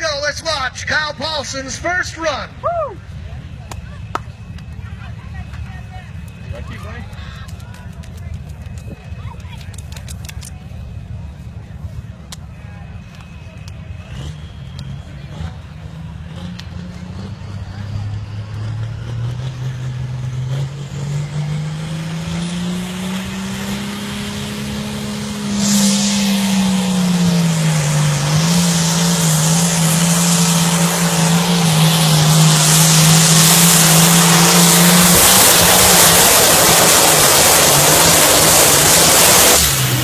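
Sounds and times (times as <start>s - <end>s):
tractor engine running under load: 3.2s - 40.0s.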